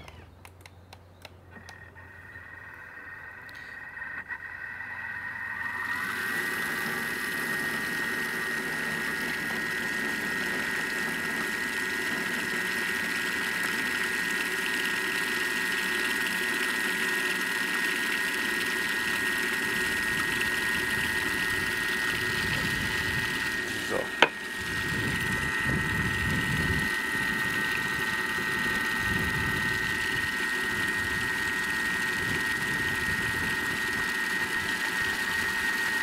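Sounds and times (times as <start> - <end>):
food processor motor whine: 0.0 - 0.4, 1.2 - 36.0.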